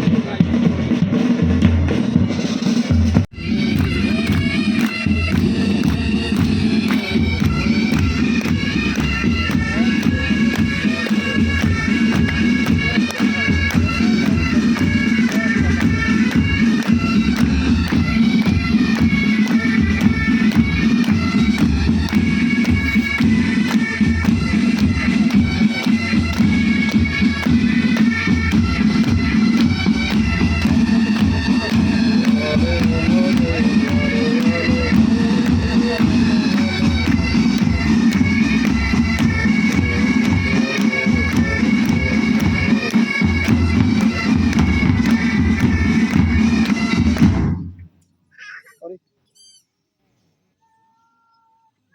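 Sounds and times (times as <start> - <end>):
drum strokes: 0.0 - 48.0
bagpipes playing: 3.3 - 47.3.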